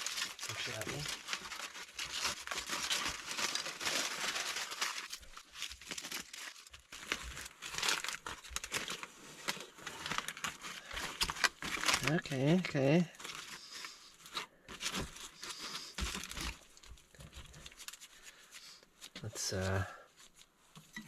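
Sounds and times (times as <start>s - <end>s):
aluminium foil crinkling and tearing: 0.0s - 20.6s.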